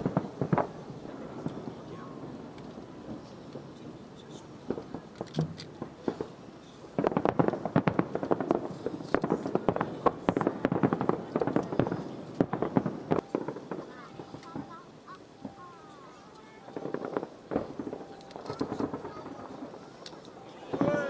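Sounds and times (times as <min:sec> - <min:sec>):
fireworks bangs: 0:00.0 - 0:21.0
fireworks crackling pops: 0:00.0 - 0:21.0.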